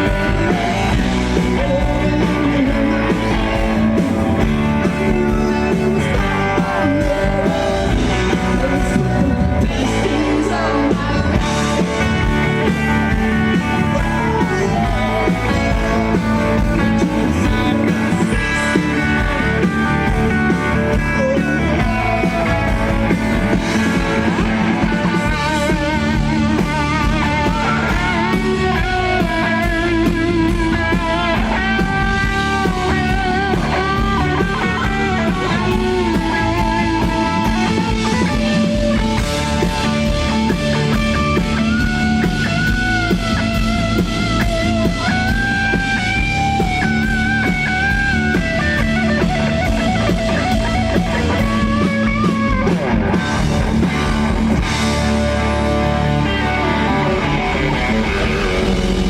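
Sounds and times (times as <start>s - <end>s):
electric guitar: 0.0s - 59.0s
rock band playing loudly: 0.0s - 59.0s.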